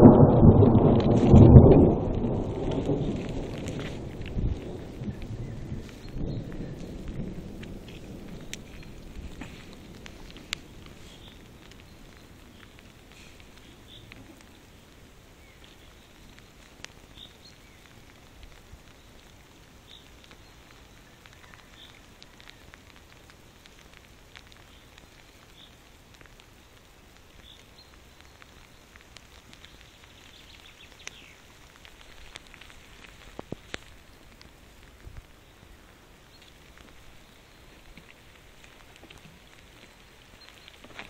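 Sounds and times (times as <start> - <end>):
light rain patter: 0.0 - 41.0.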